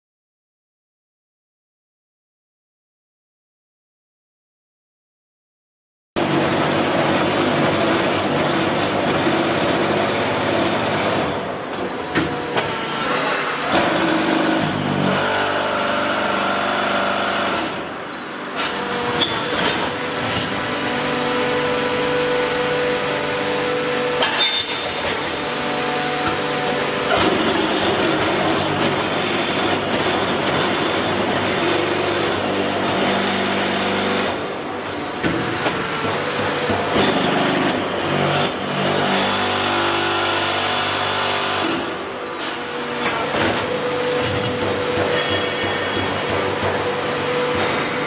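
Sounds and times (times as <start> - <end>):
machine hum and whine: 6.2 - 48.0.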